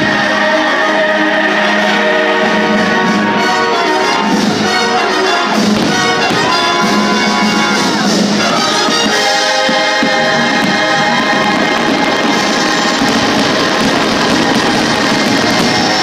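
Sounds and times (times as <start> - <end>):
orchestral music with brass: 0.0 - 16.0.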